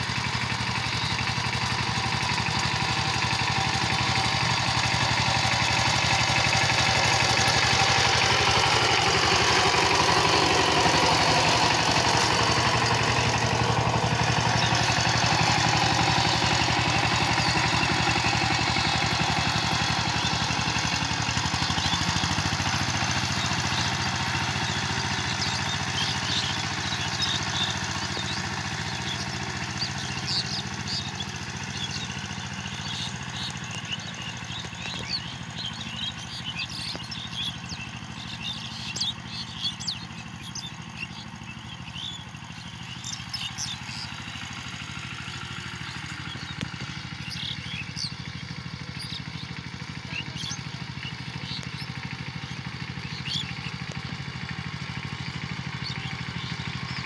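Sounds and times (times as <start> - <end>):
diesel tiller engine running: 0.0 - 57.0.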